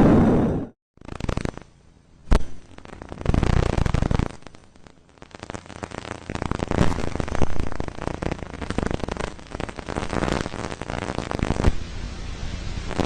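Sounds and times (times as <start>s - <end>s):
sharp crack: 1.0s - 11.9s
noisy swells: 1.0s - 13.0s
static-like hiss with clicks: 1.0s - 13.0s.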